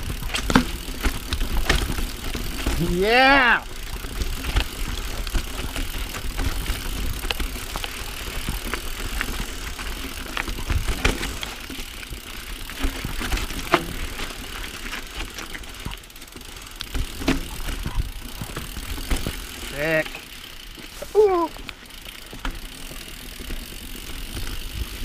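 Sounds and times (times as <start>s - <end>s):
bike rattling and clicking: 0.0s - 25.0s
bike tyre noise: 0.0s - 25.0s.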